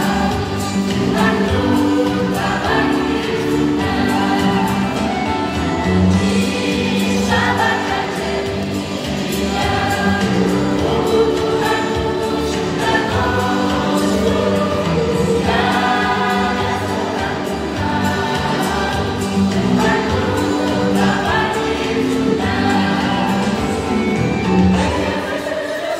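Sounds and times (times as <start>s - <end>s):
mixed choir singing in harmony: 0.0s - 25.9s.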